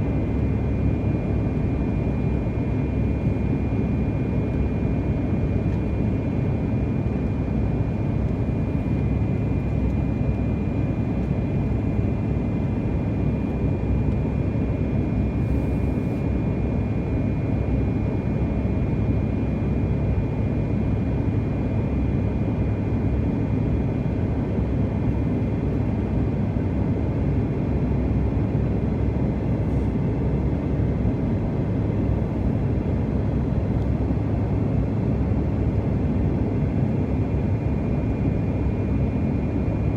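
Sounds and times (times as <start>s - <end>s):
jet cabin engine drone: 0.0s - 39.9s.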